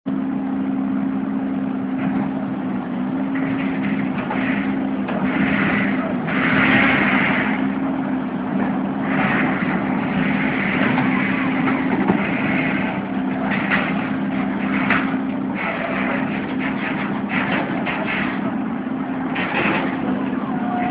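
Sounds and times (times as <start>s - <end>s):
heavy machinery engine hum: 0.1s - 20.9s
grinding scraping noise: 2.0s - 20.9s.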